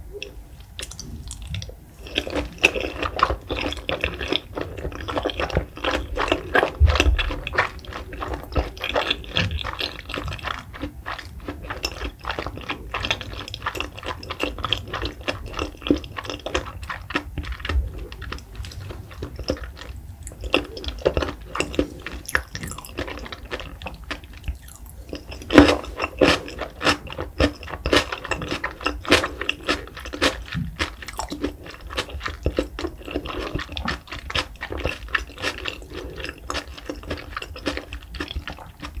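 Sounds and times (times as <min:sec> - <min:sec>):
wet chewing with mouth clicks: 0:00.2 - 0:39.0.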